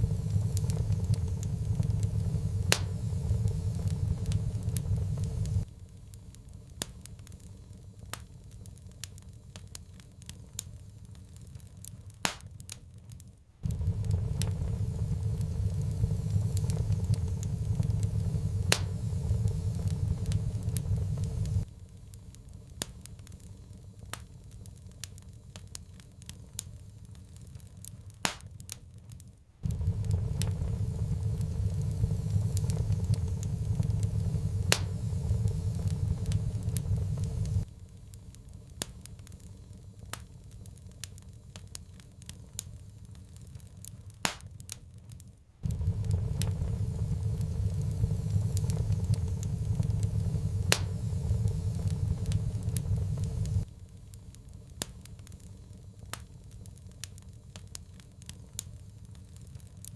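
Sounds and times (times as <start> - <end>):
steady low rumble: 0.0 - 12.2, 13.6 - 28.2, 29.6 - 44.2, 45.6 - 59.9
wood fire crackling: 0.0 - 59.9.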